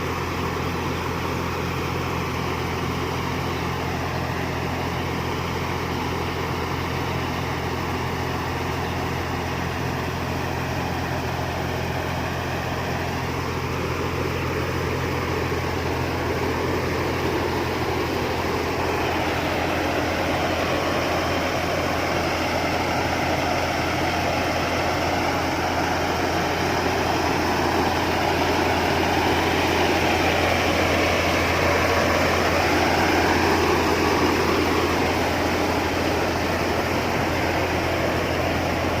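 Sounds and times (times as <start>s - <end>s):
combine harvester engine running: 0.0s - 39.0s.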